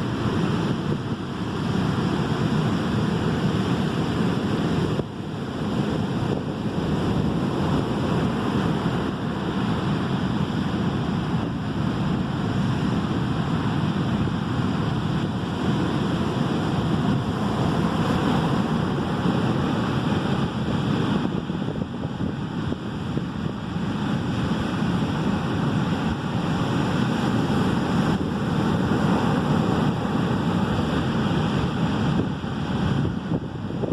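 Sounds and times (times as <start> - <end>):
sea surf washing in: 0.0 - 33.9
wind buffeting microphone: 0.0 - 33.9.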